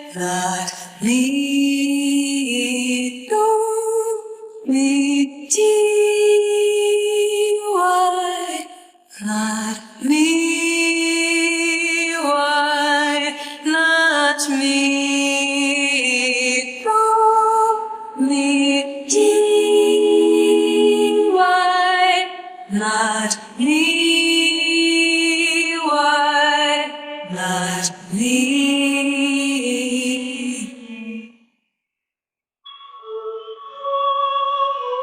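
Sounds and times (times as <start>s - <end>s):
women singing a cappella: 0.0s - 31.4s, 33.1s - 35.0s.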